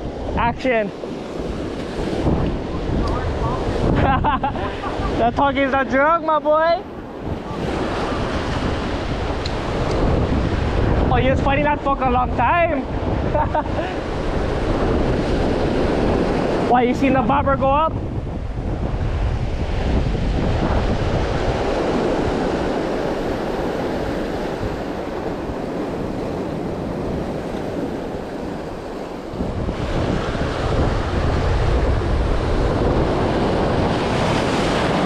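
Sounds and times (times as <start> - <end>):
surf breaking and washing ashore: 0.0 - 35.0
wind buffeting microphone: 0.0 - 35.0.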